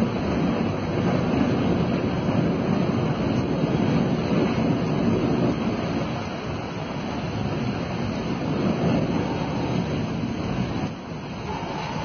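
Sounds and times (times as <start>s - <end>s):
large fire roaring: 0.0s - 12.0s
wind buffeting microphone: 0.0s - 12.0s.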